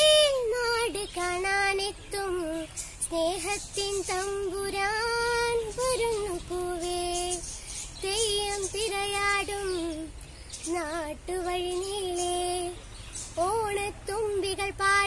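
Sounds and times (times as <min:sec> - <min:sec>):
girl singing: 0:00.0 - 0:15.0.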